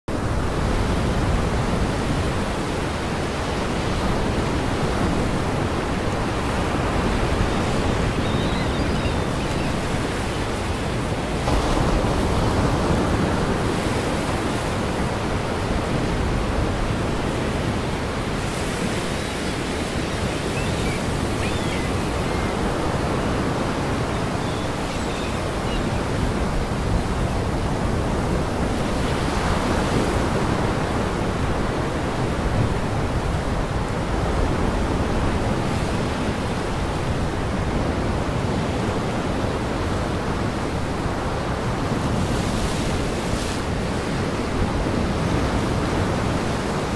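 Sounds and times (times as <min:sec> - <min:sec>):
strong wind: 0:00.1 - 0:46.9
waves breaking against pier: 0:00.2 - 0:46.9.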